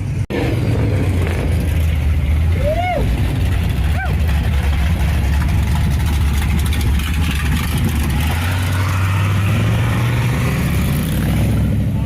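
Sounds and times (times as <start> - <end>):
car engine passing: 0.3 - 12.0.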